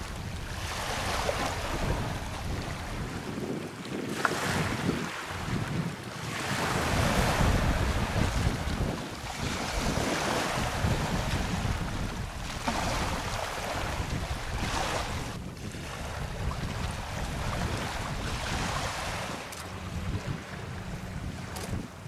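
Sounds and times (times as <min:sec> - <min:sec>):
small waves washing in: 0:00.0 - 0:22.0
wind gusting on microphone: 0:00.0 - 0:22.0.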